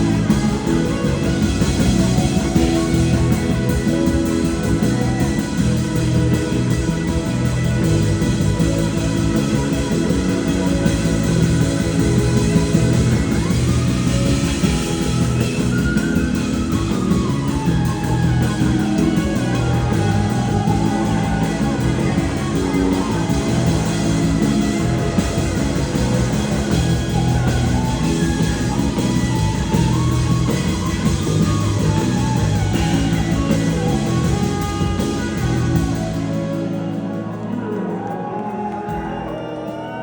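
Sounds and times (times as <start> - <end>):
live band playing soul blues: 0.0 - 40.0
slide guitar lead: 0.0 - 40.0.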